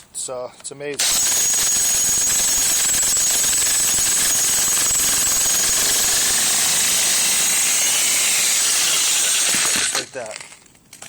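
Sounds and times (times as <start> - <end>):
jackhammer pounding concrete: 1.0 - 10.2.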